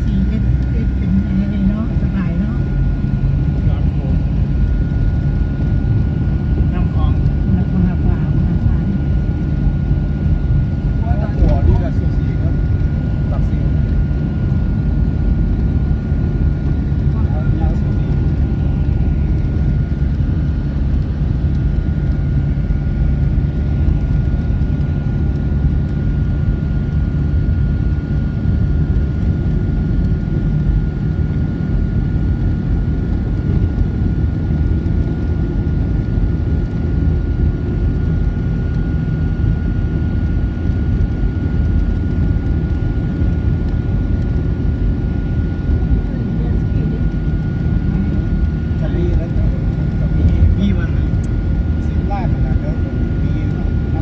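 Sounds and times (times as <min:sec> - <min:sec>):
vehicle driving rumble: 0:00.0 - 0:54.0.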